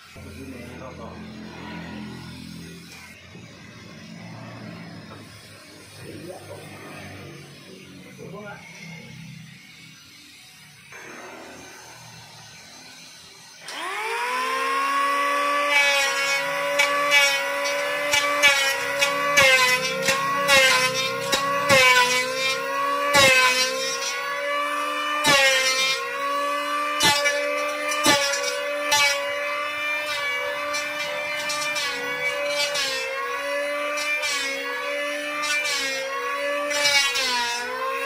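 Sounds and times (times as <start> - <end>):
planer blade scraping wood: 0.0 - 7.5, 13.6 - 38.0
electric planer motor whine: 0.0 - 38.0.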